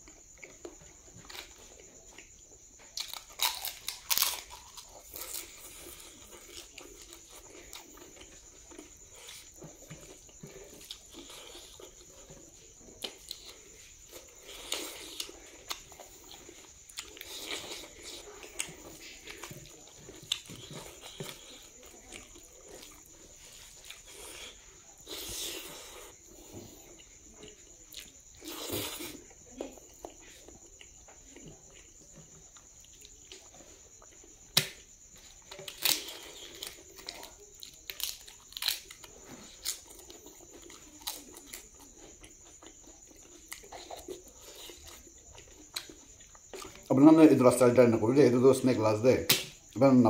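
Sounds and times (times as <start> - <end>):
man chewing food: 0.0 - 47.3.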